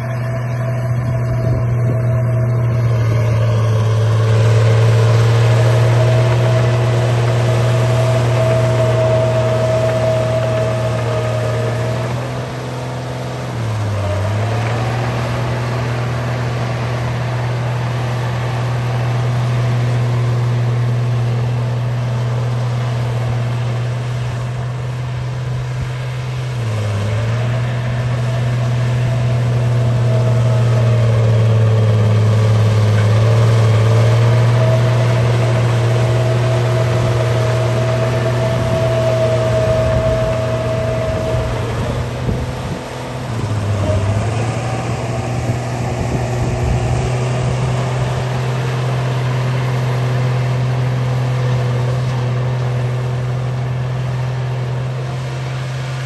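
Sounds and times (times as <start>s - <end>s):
bulldozer engine humming: 0.0s - 56.0s.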